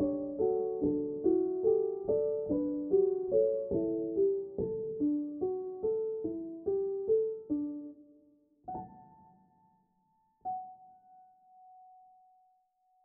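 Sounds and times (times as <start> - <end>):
piano music: 0.0 - 8.0, 8.7 - 9.8, 10.4 - 12.4.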